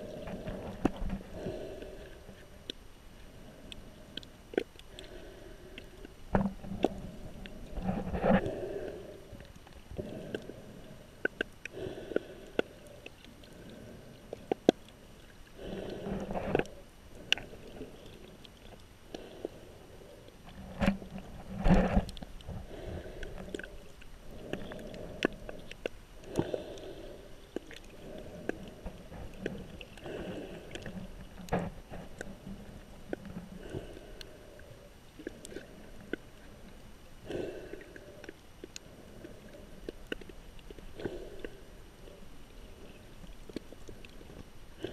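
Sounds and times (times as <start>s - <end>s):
sharp underwater clicks: 0.0s - 41.8s
muffled underwater water movement: 0.0s - 44.9s.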